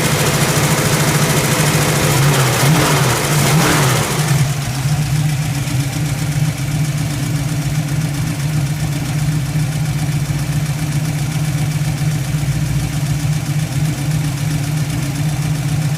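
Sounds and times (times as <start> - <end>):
car engine idling: 0.0 - 15.9.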